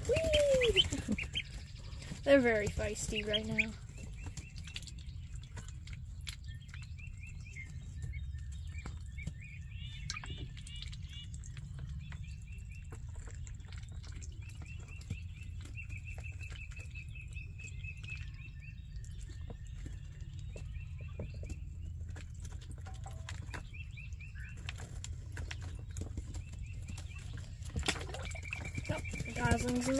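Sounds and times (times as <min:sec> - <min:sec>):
ducklings and goslings peeping: 0:00.0 - 0:29.9.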